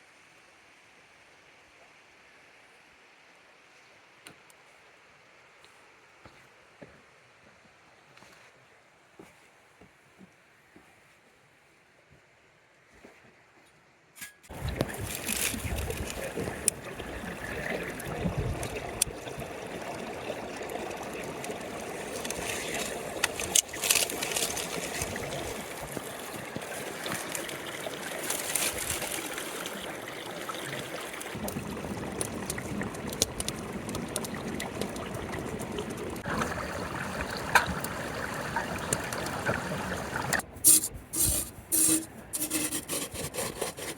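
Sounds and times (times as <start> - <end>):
stream trickling and gurgling: 0.0 - 9.3, 14.5 - 40.5.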